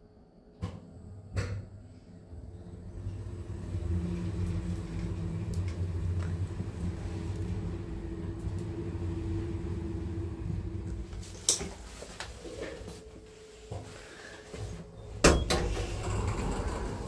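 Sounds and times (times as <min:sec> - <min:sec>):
lift drive hum: 0:00.7 - 0:17.0.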